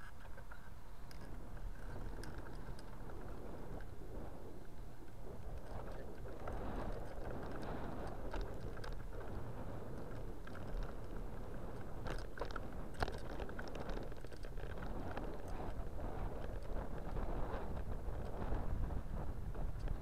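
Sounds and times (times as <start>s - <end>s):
light clicks and rattles: 0.0s - 18.6s
bicycle tyre rumble: 0.0s - 20.0s
wind noise: 0.0s - 20.0s.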